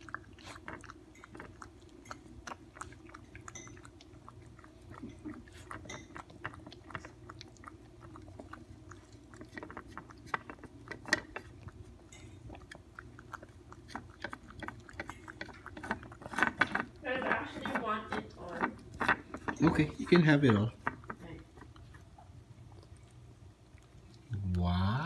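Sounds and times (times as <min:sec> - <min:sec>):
dog lapping milk: 0:00.0 - 0:24.3.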